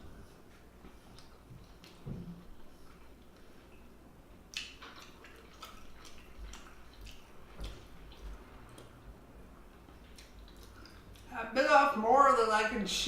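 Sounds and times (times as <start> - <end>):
wet chewing and mouth smacks: 0.5 - 11.3.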